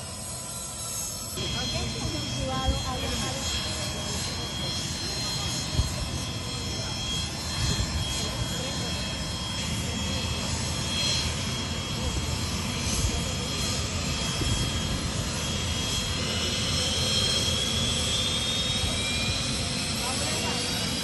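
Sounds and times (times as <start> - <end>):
jet engine rumble and whine: 0.0 - 21.0.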